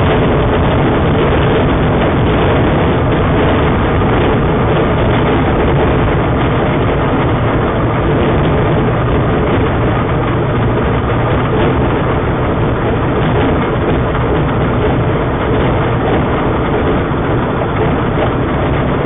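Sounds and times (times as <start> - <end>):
light plane engine and propeller: 0.0 - 19.0.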